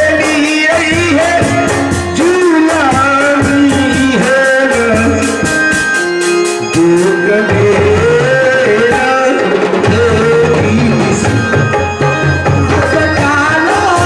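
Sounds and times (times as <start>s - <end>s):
person singing: 0.0s - 5.6s, 6.6s - 11.7s, 12.6s - 14.0s
fast drum beat: 0.0s - 14.0s.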